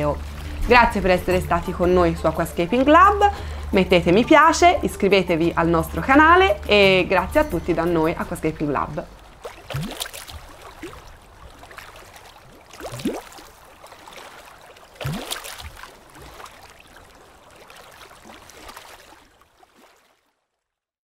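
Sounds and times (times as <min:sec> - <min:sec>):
rising water glugs: 0:00.0 - 0:20.0
water bubbling and gurgling: 0:00.0 - 0:20.3.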